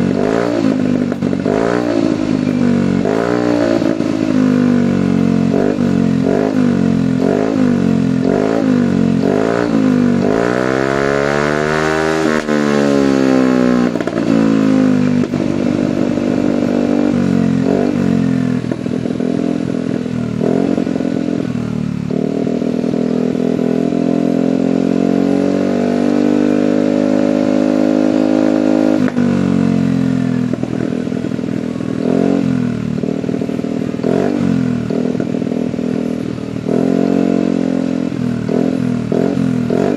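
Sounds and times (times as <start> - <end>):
exhaust popping: 0.0 - 26.5, 28.1 - 39.9
scooter engine revving: 0.0 - 39.9.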